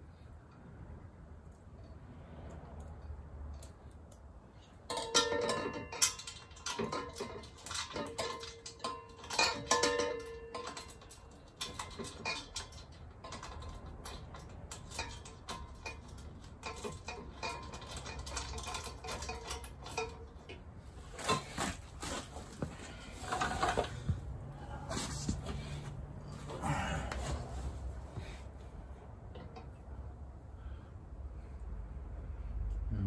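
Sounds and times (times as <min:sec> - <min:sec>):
metal clinking and scraping: 0:01.5 - 0:30.2.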